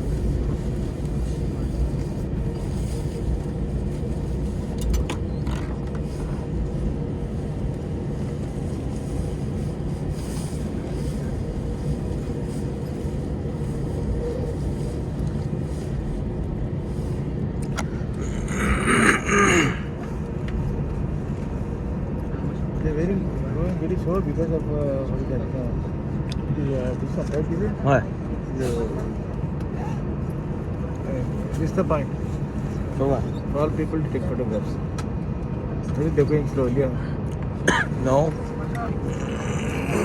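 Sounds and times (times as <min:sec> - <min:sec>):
airliner engines rumbling: 0:00.0 - 0:40.0.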